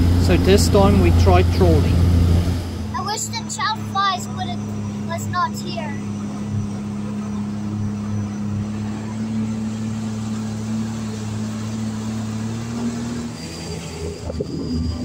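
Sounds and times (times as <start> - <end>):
jet boat engine humming: 0.0 - 15.0.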